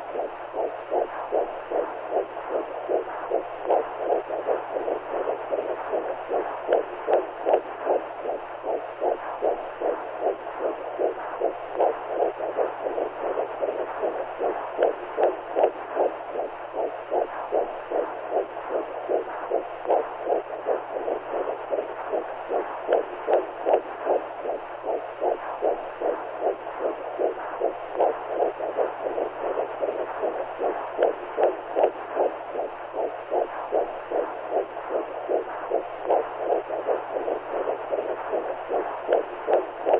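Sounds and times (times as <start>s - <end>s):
faint low hum: 0.0s - 39.9s
whooshing heartbeat pulse: 0.0s - 39.9s.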